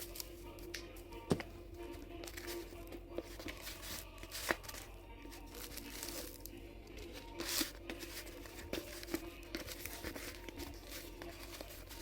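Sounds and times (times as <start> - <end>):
rustling and crinkling: 1.2 - 12.0.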